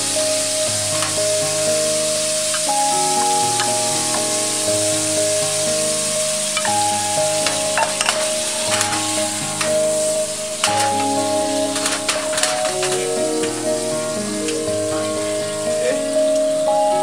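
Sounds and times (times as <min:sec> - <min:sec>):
background music of held tones: 0:00.0 - 0:17.0
food sizzling in a pan: 0:00.0 - 0:17.0.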